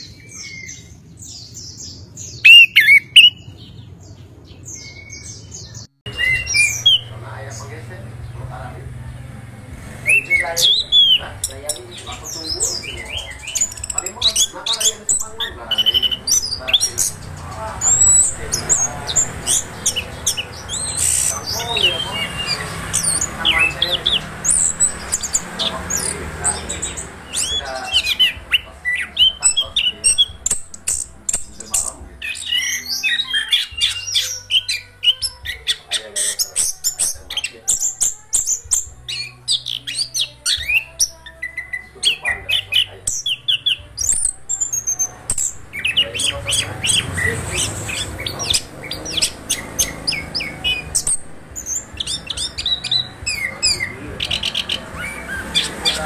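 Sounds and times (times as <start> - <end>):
thrush singing: 0.0 - 56.0.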